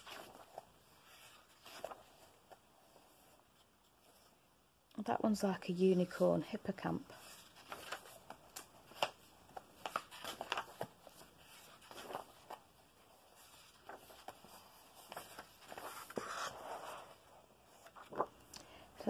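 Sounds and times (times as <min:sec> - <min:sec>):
book pages turning: 0:00.0 - 0:04.3, 0:07.2 - 0:18.5.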